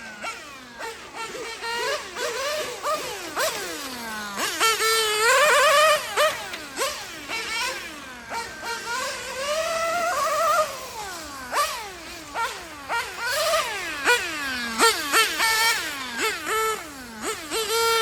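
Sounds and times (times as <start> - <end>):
model car engine revving: 0.0 - 18.0.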